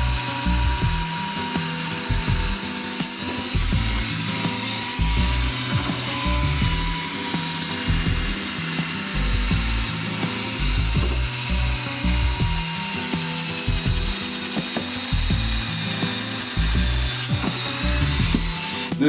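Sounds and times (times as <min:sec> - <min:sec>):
power tool whirring: 0:00.0 - 0:19.0.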